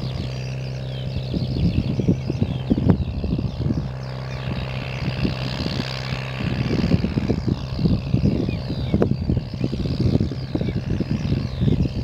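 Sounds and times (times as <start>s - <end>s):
low rumbles: 0.0s - 12.0s
tractor diesel engine droning: 0.0s - 12.0s.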